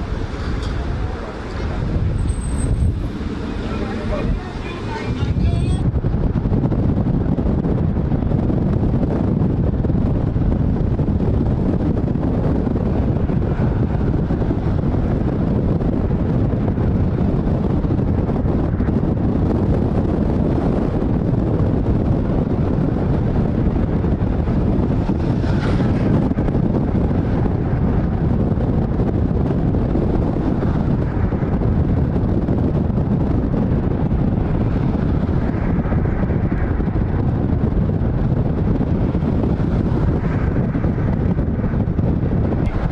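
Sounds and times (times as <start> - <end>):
continuous low rumble: 0.0 - 42.9
wind buffeting microphone: 0.0 - 42.9.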